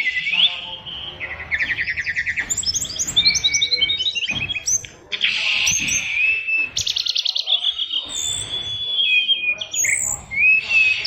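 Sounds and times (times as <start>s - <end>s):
bird singing chirps and trills: 0.0s - 11.0s.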